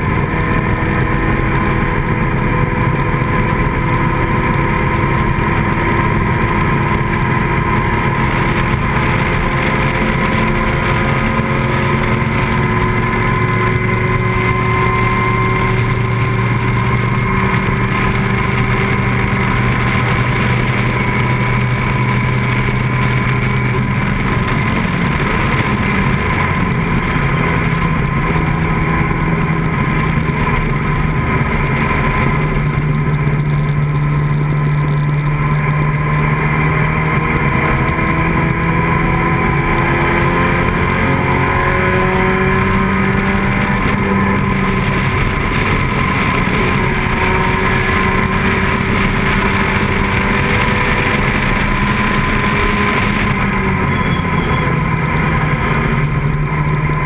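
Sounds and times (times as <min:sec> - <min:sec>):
racing car engine at speed: 0:00.0 - 0:57.0.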